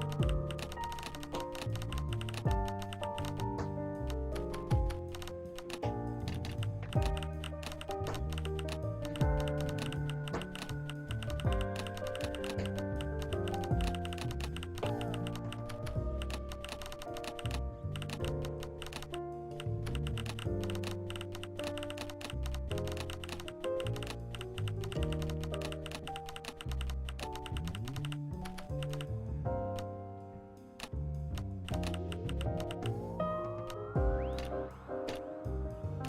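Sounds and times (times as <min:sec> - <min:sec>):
rapid irregular clicks: 0:00.0 - 0:29.1, 0:30.8 - 0:33.0
music with bass and chords: 0:00.0 - 0:36.0.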